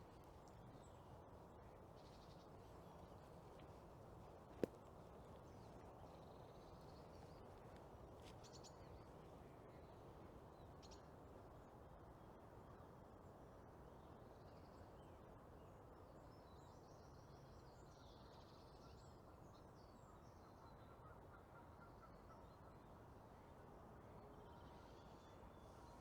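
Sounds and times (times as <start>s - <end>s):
faint small bird song: 0.0s - 26.0s.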